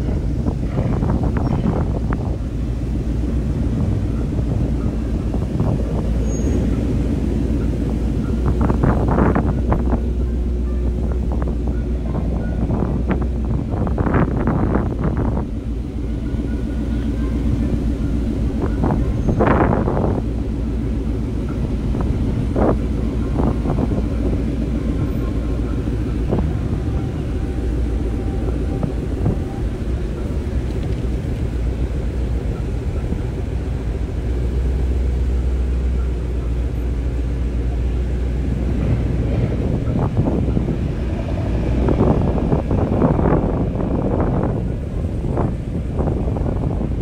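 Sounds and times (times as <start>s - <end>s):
car engines rumbling: 0.0s - 47.0s
faint voices: 0.0s - 47.0s
wind on microphone: 0.0s - 47.0s.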